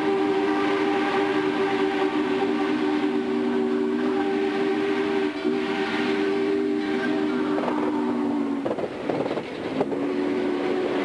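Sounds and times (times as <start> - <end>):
steam locomotive whistle: 0.0 - 11.0
train running noise: 0.0 - 11.0.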